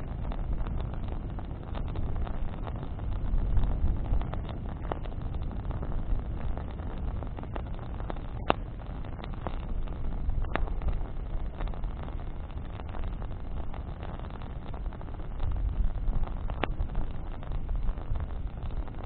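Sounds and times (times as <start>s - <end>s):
campfire crackling: 0.0s - 19.0s
fire pops: 0.0s - 19.0s
low rumble: 0.0s - 19.0s.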